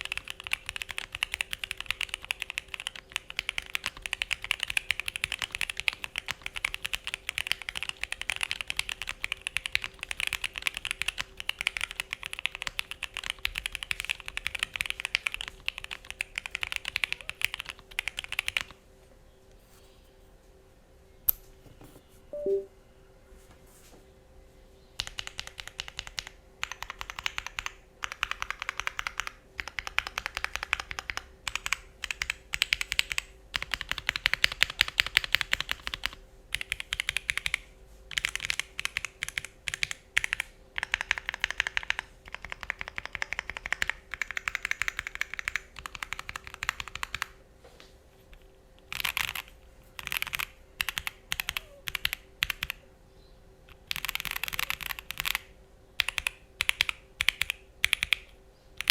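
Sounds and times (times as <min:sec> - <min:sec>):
mechanical keyboard typing: 0:00.0 - 0:18.7, 0:25.0 - 0:47.4, 0:48.8 - 0:52.8, 0:53.7 - 0:58.9.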